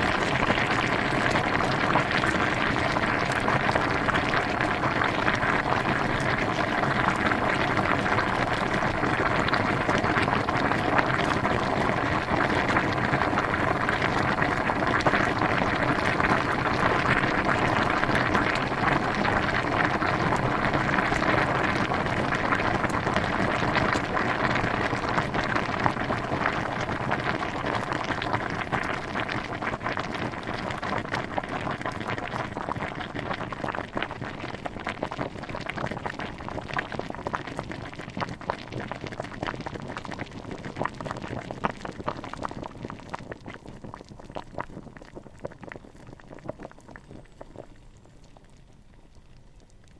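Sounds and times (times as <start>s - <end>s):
water boiling and bubbling: 0.0s - 49.9s.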